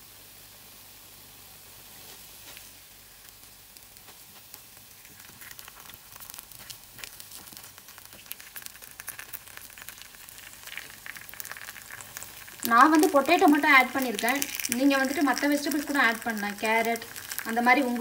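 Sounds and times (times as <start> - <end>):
batter sizzling in oil: 0.0 - 18.0.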